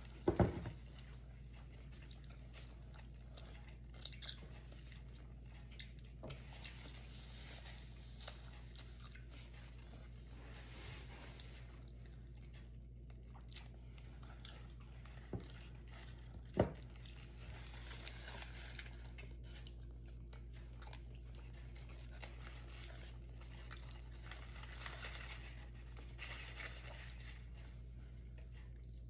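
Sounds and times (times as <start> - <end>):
chewing and crunching food: 0.0 - 29.0
steady low hum: 0.0 - 29.0.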